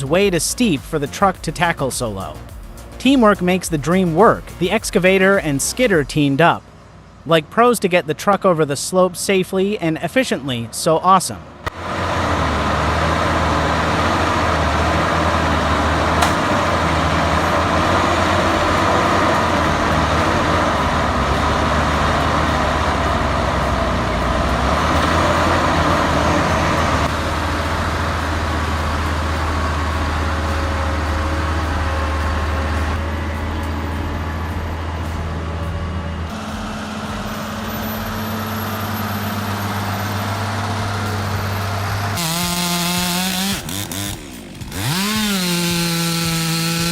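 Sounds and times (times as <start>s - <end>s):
heavy diesel machinery engines: 0.0s - 46.9s.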